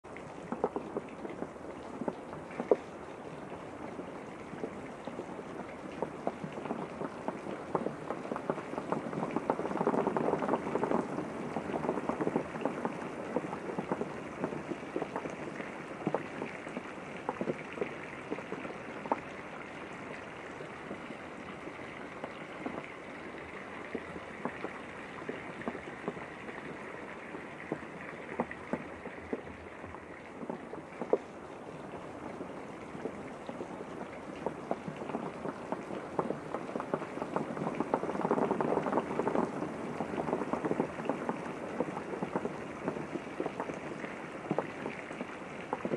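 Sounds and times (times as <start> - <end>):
steady rain with drops tapping: 0.0 - 45.9.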